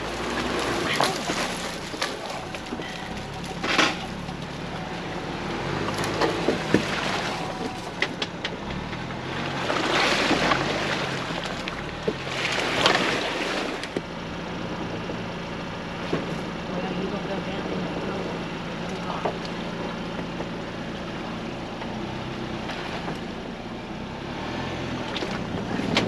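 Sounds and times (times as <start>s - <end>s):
engine running low: 0.0s - 26.0s.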